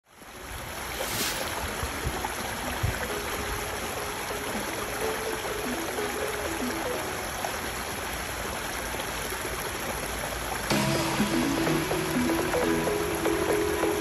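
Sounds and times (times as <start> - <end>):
water rushing over stones: 0.1 - 14.0.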